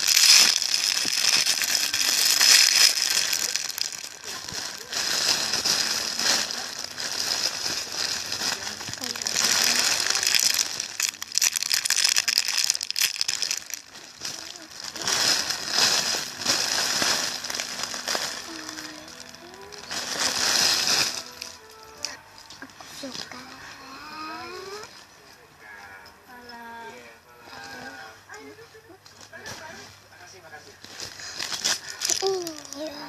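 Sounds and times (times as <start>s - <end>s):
plastic crinkling and rustling: 0.0s - 25.2s, 27.0s - 33.0s.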